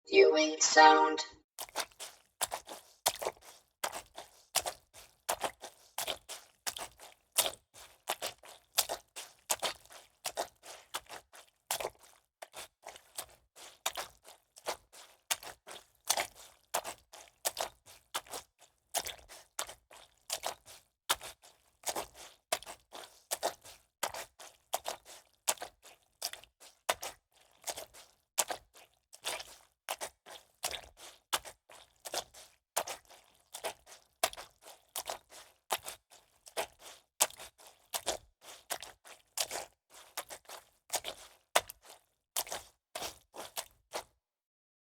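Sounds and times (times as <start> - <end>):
footsteps splashing in shallow water: 1.6 - 44.2.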